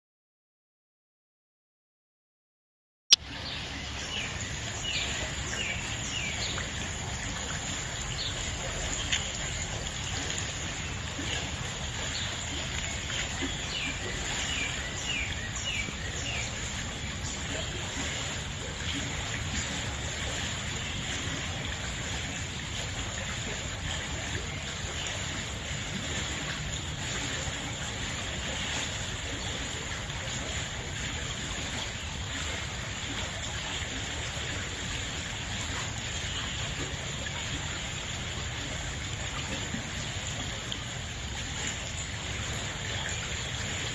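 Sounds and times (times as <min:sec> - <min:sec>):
stream flowing: 0:03.1 - 0:43.9.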